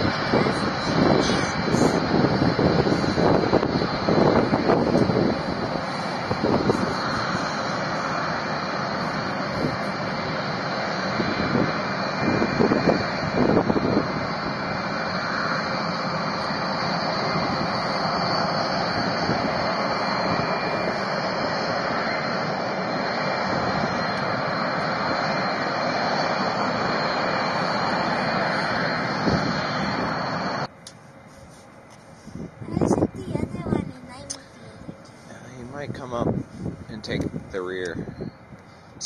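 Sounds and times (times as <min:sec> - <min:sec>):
wind buffeting microphone: 0:00.0 - 0:30.7, 0:32.2 - 0:39.0
jet engines roaring: 0:00.0 - 0:39.0.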